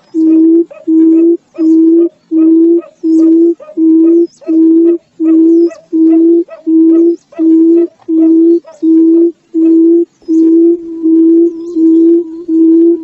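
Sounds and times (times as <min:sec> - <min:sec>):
bird low hooting calls: 0:00.0 - 0:13.0
small birds chirping: 0:00.0 - 0:13.0.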